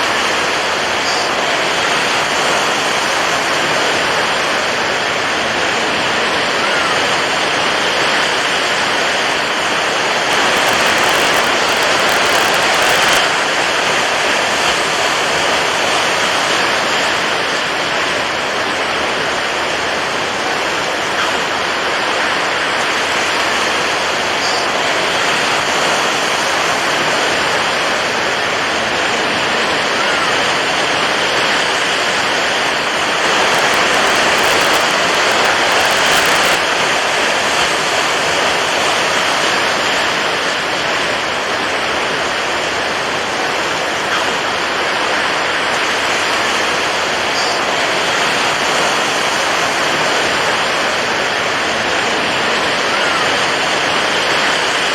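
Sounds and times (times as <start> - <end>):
rushing water: 0.0 - 54.9.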